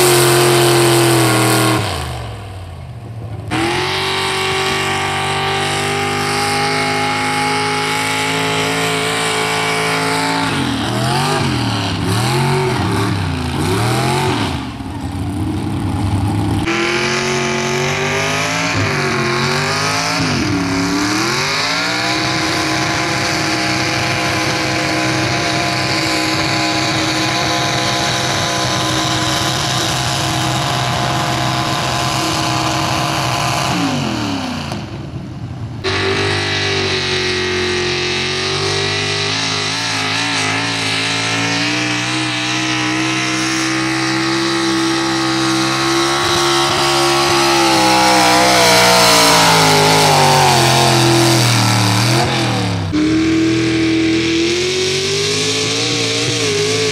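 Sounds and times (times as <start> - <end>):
truck engine at full throttle: 0.0 - 56.9.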